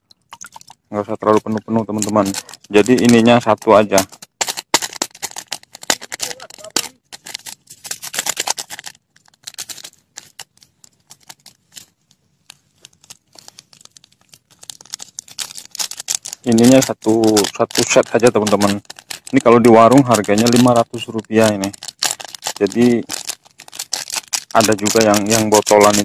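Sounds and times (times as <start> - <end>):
plastic sachet crackling: 0.3 - 26.0.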